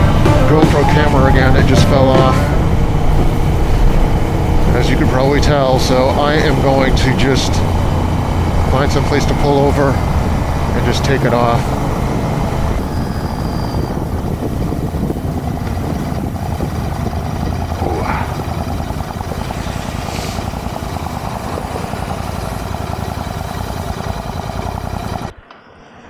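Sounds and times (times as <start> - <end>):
motorcycle engine running: 0.0 - 25.4
wind and road noise: 0.0 - 26.0.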